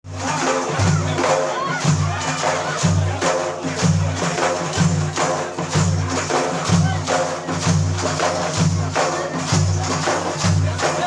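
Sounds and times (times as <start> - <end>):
frame drum and tambourine beat: 0.0 - 11.0.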